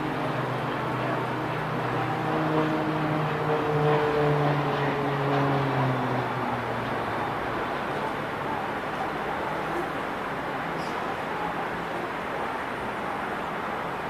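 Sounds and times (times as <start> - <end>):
propeller plane droning: 0.0 - 14.0.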